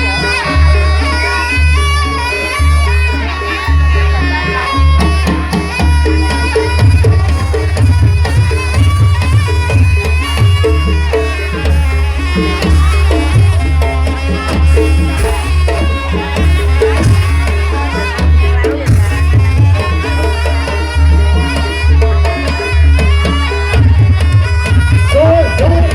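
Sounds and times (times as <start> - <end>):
hand drums: 0.0 - 25.9
reedy melody: 0.0 - 25.9.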